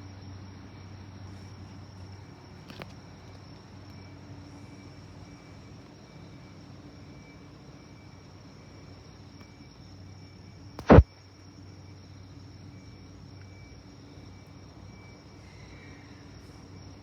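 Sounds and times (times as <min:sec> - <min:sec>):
faint low hum: 0:00.0 - 0:17.0
night insects chirring: 0:00.0 - 0:17.0.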